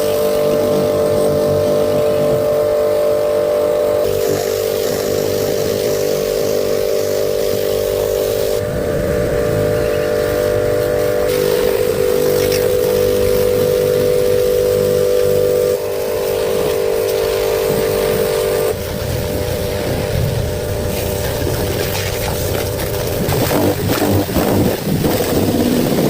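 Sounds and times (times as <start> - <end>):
motor engine humming: 0.0 - 26.0.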